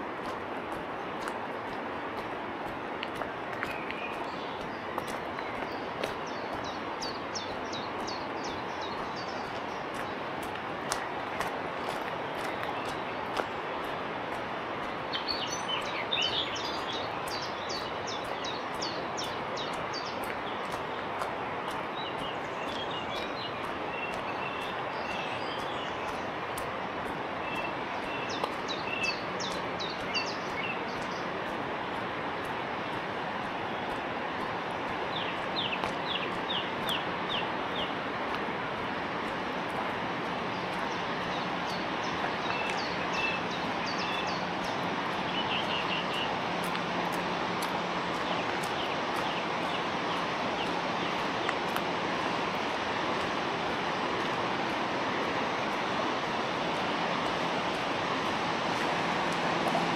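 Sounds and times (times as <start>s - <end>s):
river rushing: 0.0s - 59.9s
songbirds singing: 0.0s - 59.9s.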